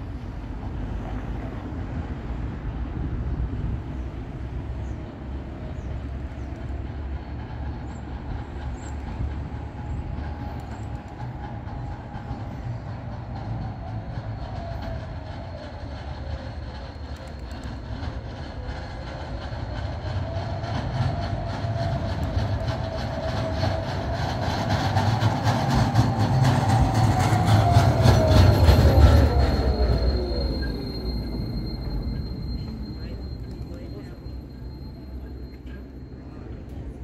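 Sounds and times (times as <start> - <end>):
tram motor whine: 0.0 - 37.0
tram rumbling on tracks: 0.0 - 37.0.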